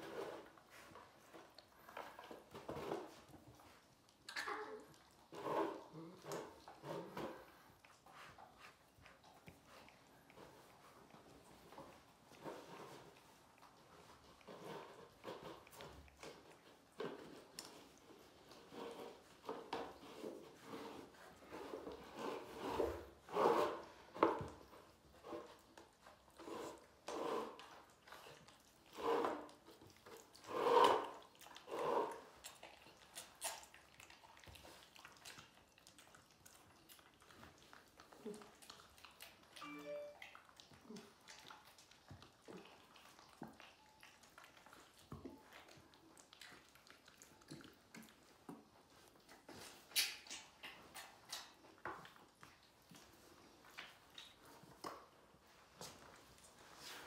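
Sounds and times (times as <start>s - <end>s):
animals chewing and tearing meat: 0.0s - 57.0s.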